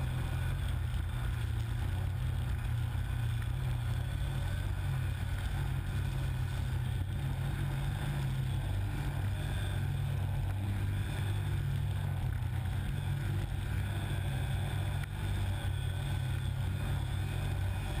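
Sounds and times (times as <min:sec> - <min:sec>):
snowmobile engine running: 0:00.0 - 0:18.0.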